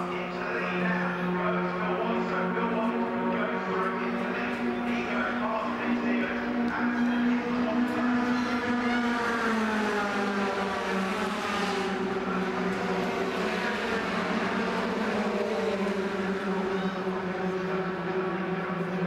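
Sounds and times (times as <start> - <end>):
racing truck engines: 0.0 - 19.0.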